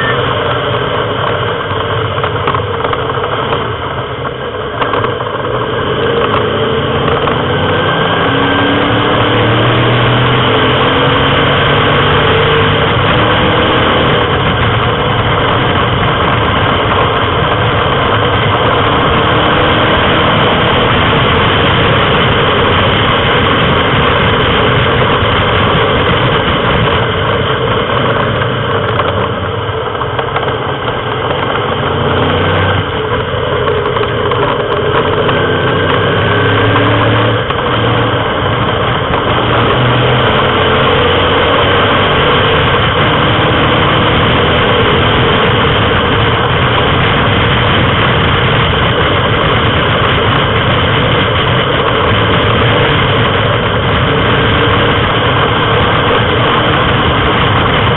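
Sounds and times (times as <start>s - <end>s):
racing car engine: 0.0s - 57.9s
wind rush: 0.0s - 57.9s.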